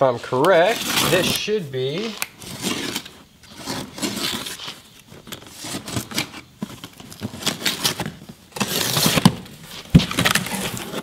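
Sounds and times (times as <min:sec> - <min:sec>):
cardboard flaps scraping: 0:00.4 - 0:11.0
packing tape tearing: 0:00.4 - 0:11.0.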